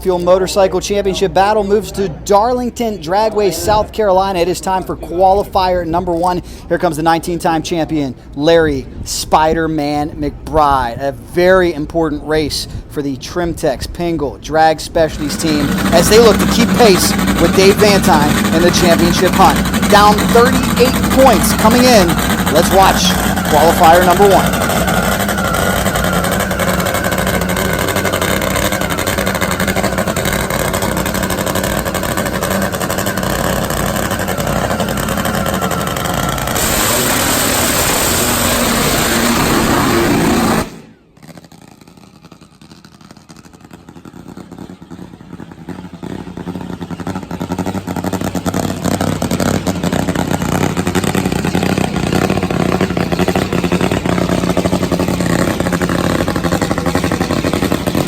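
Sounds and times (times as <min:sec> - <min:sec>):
drag motorcycle engine roaring: 0:00.0 - 0:09.0, 0:09.6 - 0:58.0.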